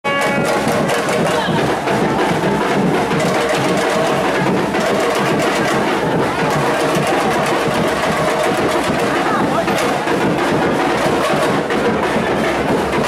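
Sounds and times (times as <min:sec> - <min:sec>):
street percussion drumming: 0:00.0 - 0:13.0.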